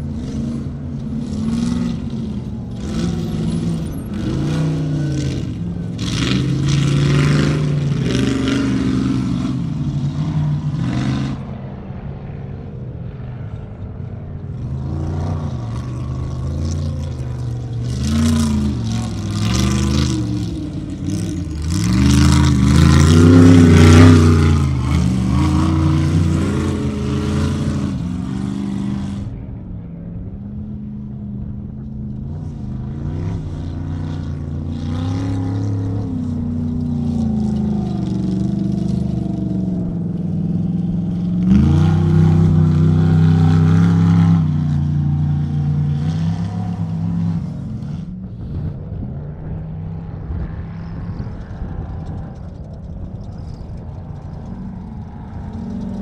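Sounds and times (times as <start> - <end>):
off-road race car engines revving: 0.0 - 56.0.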